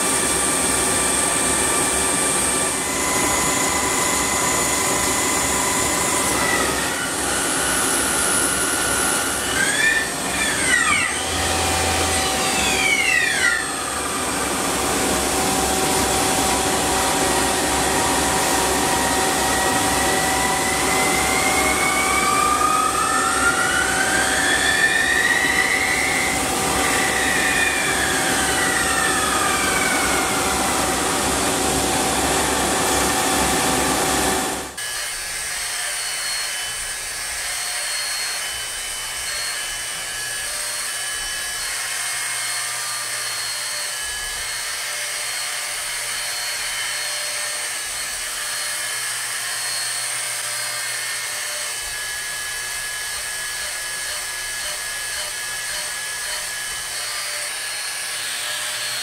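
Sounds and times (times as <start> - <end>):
lathe turning metal: 0.0 - 59.0
milling machine high whine: 0.0 - 59.0.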